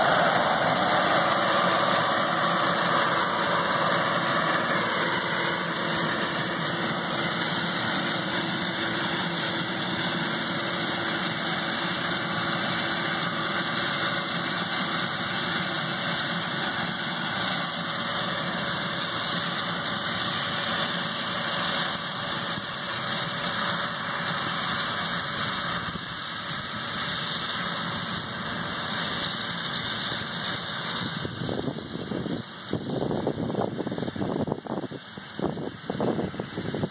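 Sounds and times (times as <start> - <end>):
ride-on mower engine running: 0.0 - 36.9.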